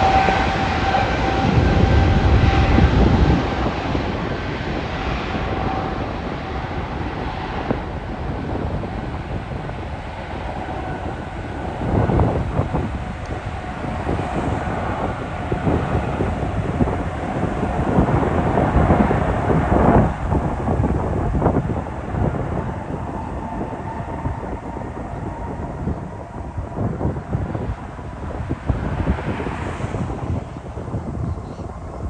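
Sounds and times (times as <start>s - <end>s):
jet engines rumbling: 0.0s - 32.0s
wind buffeting microphone: 0.0s - 32.0s.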